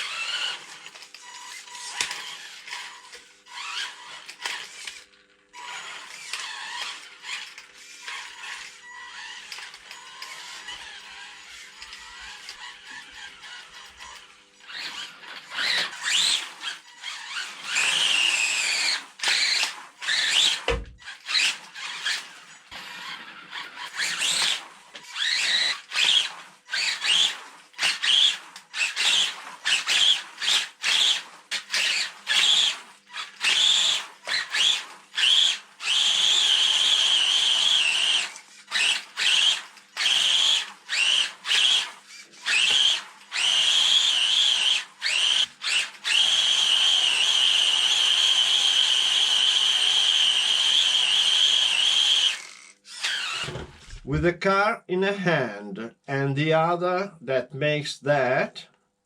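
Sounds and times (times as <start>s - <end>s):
rc car electric motor whining: 0.0s - 54.0s.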